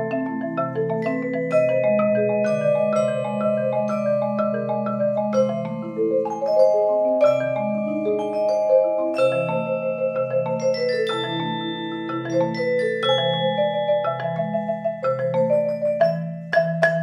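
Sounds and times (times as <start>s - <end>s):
glockenspiel notes: 0.0s - 17.0s
low rolled marimba notes: 0.0s - 17.0s
marimba melody: 0.0s - 17.0s.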